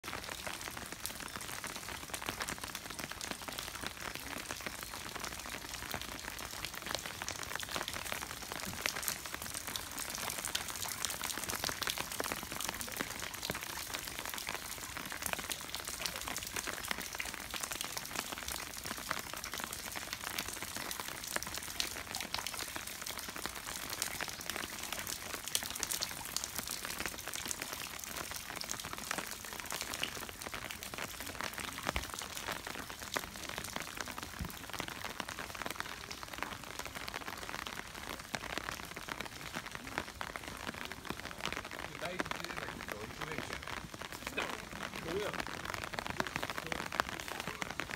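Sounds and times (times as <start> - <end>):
rain dripping off roof eaves: 0.0 - 47.9.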